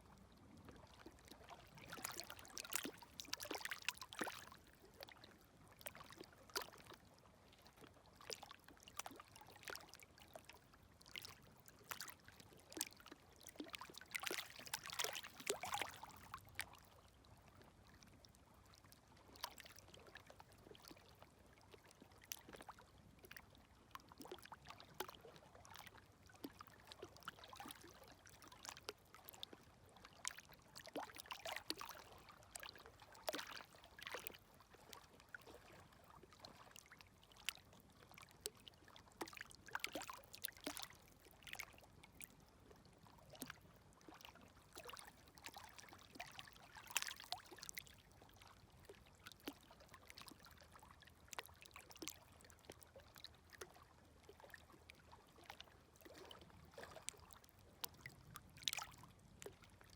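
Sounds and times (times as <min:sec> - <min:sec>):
small waves lapping at shoreline: 0:00.0 - 0:59.9.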